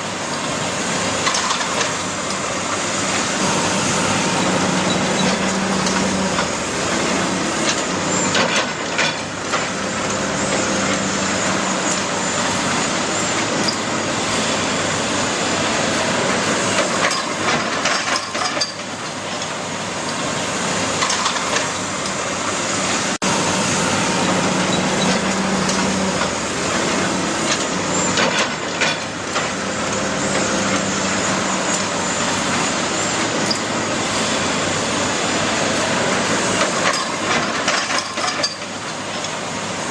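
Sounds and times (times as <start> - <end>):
diesel engine running: 0.0 - 17.8, 19.2 - 38.0.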